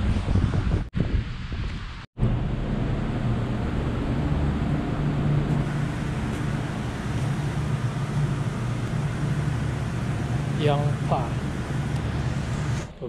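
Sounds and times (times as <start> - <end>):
low droning hum: 2.1 - 13.0.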